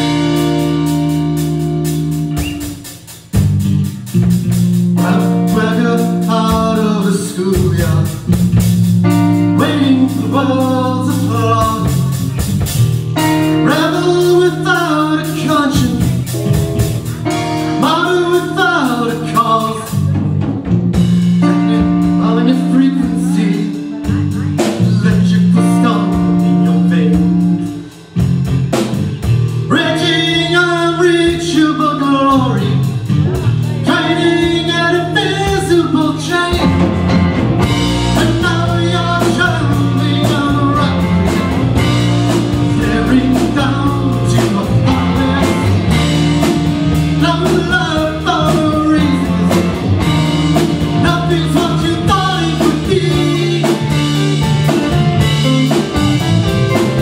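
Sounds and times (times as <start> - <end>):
rock band playing: 0.0 - 57.0
man singing: 5.0 - 8.4, 9.2 - 12.5, 13.4 - 20.5, 21.3 - 28.0, 29.7 - 57.0.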